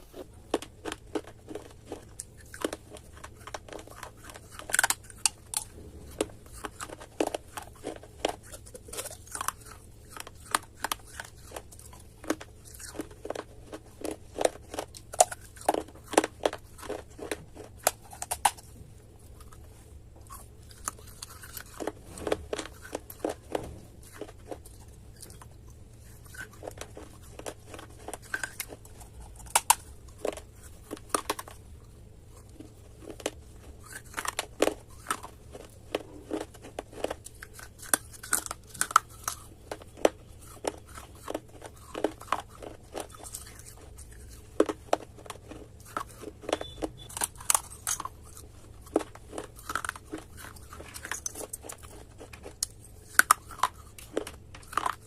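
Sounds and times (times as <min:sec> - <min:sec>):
dry clay crunching: 0:00.0 - 0:55.0
faint low hum: 0:00.0 - 0:55.0.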